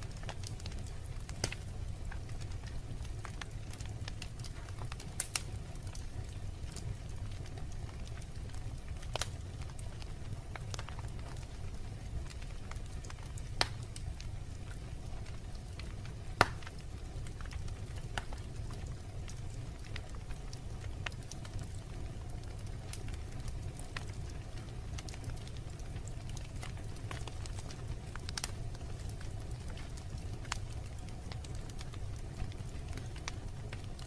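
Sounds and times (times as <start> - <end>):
wood fire burning and crackling: 0.0 - 34.0.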